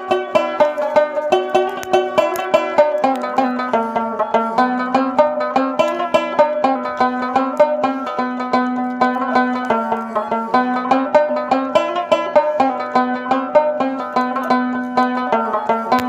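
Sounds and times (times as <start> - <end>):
plucked string notes: 0.0 - 16.0.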